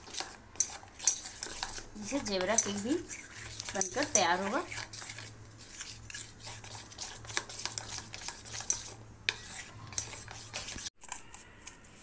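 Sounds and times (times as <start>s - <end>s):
utensil scraping metal bowl: 0.0s - 11.9s.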